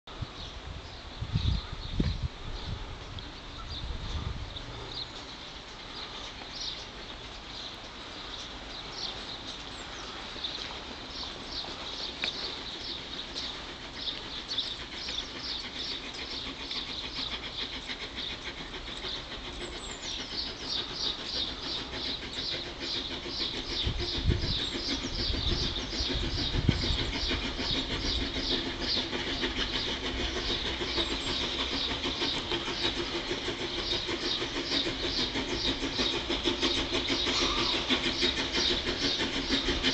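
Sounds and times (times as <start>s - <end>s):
steam locomotive chuffing: 0.1s - 39.9s.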